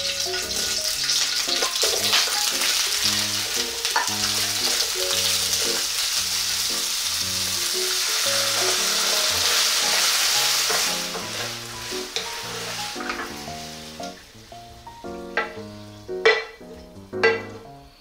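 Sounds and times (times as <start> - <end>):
vegetables and sausage sizzling: 0.0 - 18.0.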